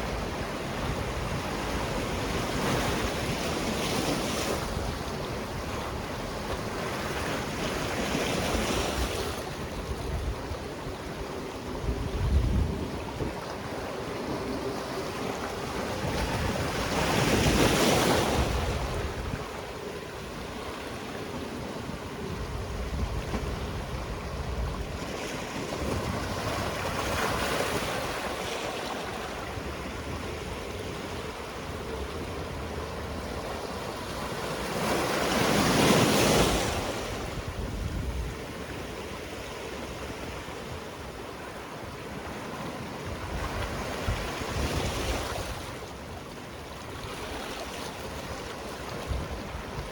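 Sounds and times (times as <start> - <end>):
sea waves washing ashore: 0.0 - 49.9.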